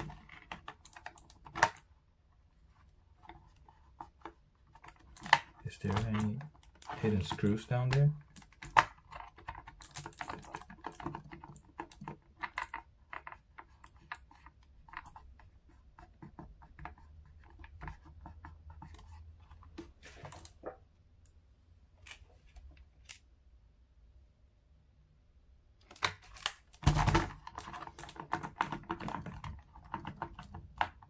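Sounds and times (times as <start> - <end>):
plastic clicks and scrapes: 0.0 - 2.0, 2.6 - 20.8, 25.8 - 31.0.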